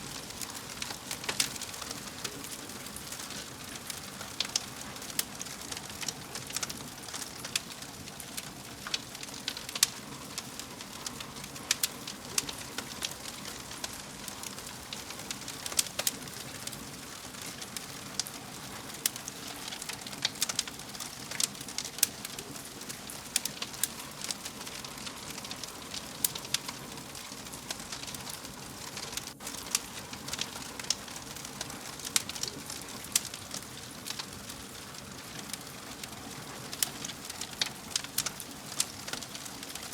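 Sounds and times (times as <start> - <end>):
fire crackles and pops: 0.0 - 39.9
wood fire hissing: 0.0 - 39.9.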